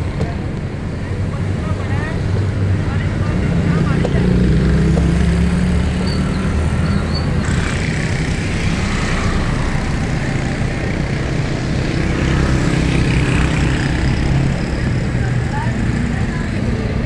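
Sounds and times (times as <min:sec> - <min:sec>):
engine running: 0:00.0 - 0:17.0
street noise: 0:00.0 - 0:17.0.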